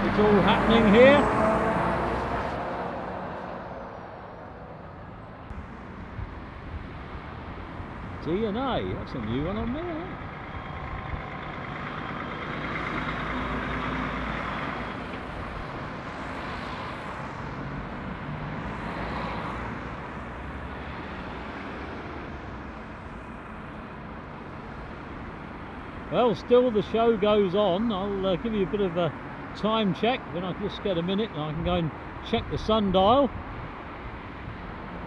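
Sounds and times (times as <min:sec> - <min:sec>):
diesel engines running: 0:00.0 - 0:35.0
tyre noise on road: 0:00.0 - 0:35.0.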